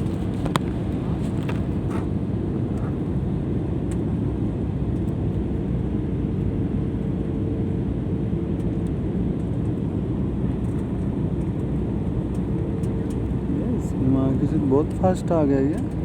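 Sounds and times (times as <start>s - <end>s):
airliner engines and rushing air: 0.0s - 16.0s
faint constant hum: 0.0s - 16.0s.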